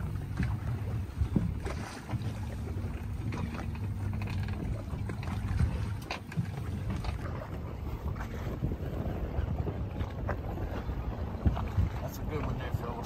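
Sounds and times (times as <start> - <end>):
water against boat hull: 0.0 - 13.0
wind rumbling on microphone: 0.0 - 13.0.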